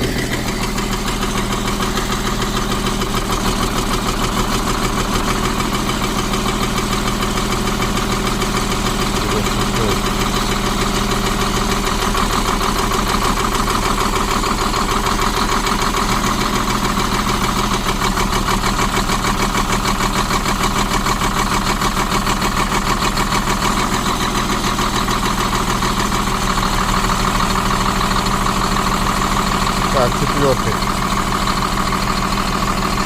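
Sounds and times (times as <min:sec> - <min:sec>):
diesel engine idling with knock: 0:00.0 - 0:33.0.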